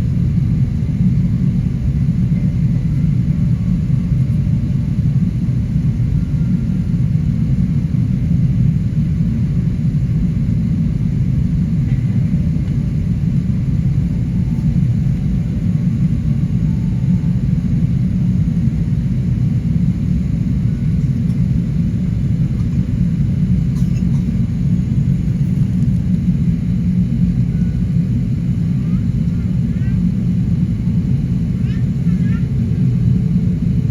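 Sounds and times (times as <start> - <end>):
airliner cabin rumble: 0.0 - 33.9.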